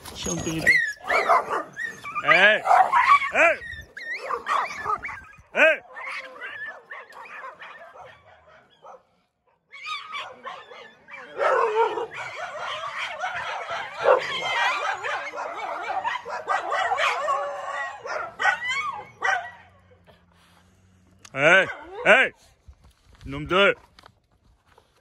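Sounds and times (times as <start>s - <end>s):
dogs barking and yelping: 0.0s - 22.2s.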